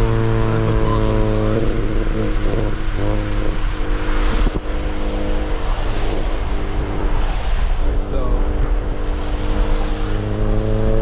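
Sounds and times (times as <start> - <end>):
car engine hum: 0.0 - 11.0
tyre noise on wet road: 0.0 - 11.0.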